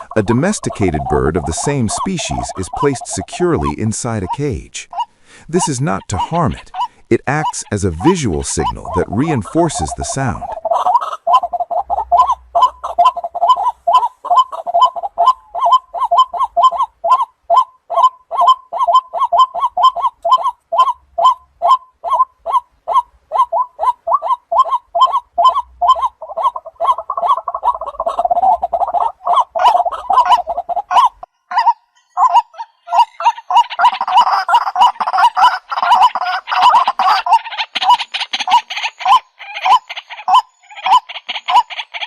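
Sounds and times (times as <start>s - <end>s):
waterhen calling: 0.0s - 42.0s.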